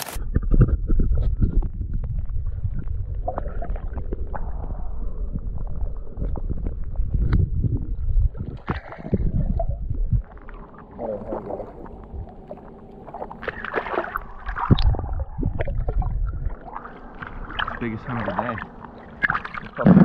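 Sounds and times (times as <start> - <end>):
muffled underwater rumble: 0.0 - 20.0
underwater knocks and clicks: 0.2 - 4.8, 5.4 - 10.6, 13.1 - 20.0.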